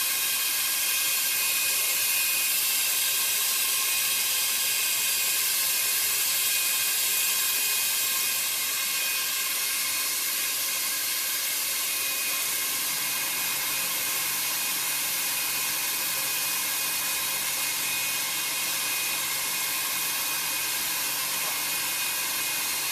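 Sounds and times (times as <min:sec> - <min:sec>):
hot air machine hissing: 0:00.0 - 0:22.9.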